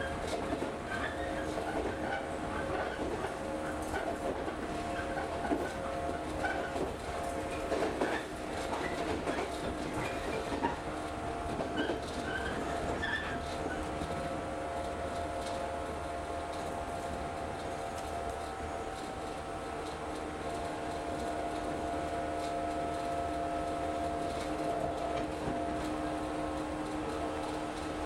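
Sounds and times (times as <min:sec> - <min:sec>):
train running hum: 0:00.0 - 0:28.0.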